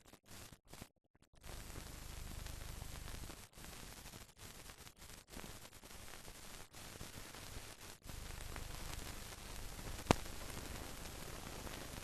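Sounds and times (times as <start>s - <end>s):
film soundtrack hiss and crackle: 0.0s - 12.0s.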